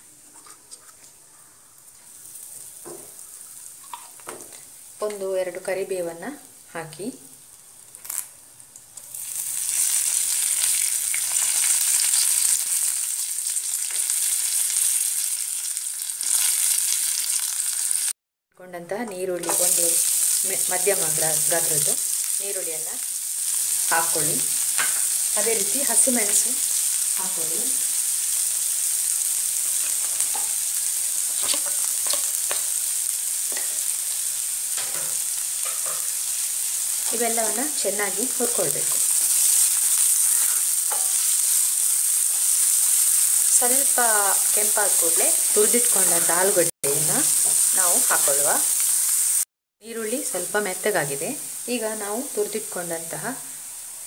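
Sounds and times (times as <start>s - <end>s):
leaves sizzling in hot oil: 1.7s - 18.2s, 19.4s - 54.0s.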